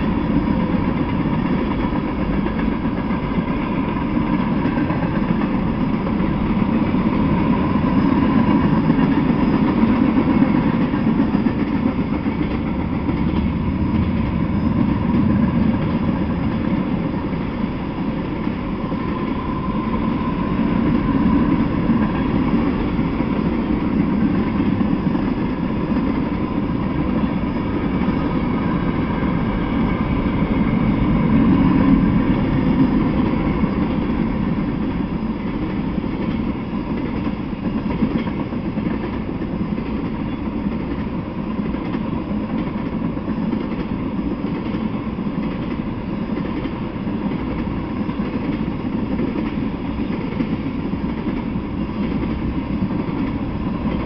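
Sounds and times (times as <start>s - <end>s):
freight train wheels rolling on rails: 0.0s - 54.0s.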